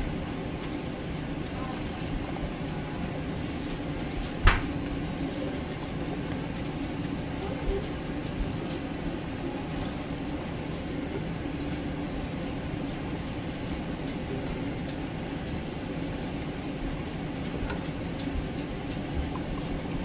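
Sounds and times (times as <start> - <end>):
fan-like hum: 0.0 - 20.0.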